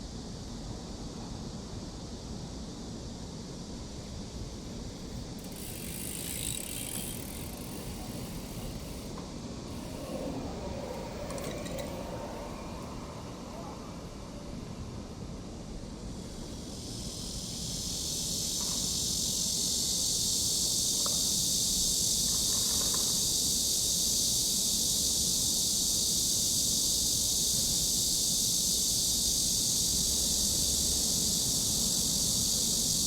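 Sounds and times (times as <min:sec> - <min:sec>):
steady high-pitched hiss: 0:00.0 - 0:33.0.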